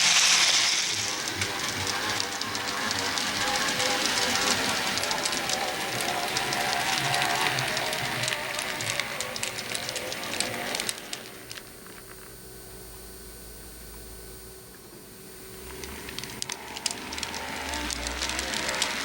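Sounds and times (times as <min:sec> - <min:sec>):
motor and gears whirring: 0:00.0 - 0:12.0, 0:15.6 - 0:19.0
model train wheels clicking: 0:00.0 - 0:12.2, 0:15.6 - 0:19.0.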